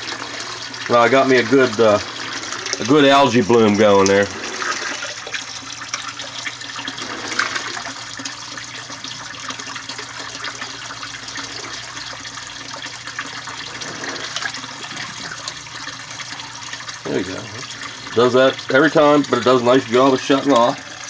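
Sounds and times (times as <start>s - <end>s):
water splashing into tank: 0.0s - 21.0s.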